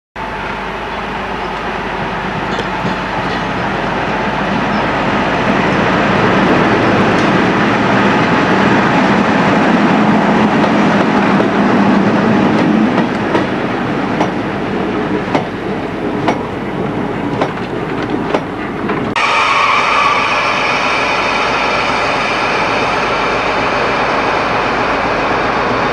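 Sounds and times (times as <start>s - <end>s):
diesel locomotive passing: 0.2s - 25.9s.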